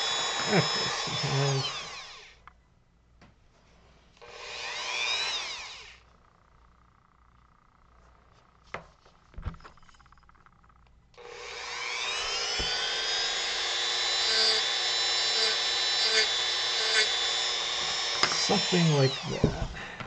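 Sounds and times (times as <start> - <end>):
rotary tool whining: 0.0 - 2.5, 4.2 - 8.6, 9.4 - 19.9.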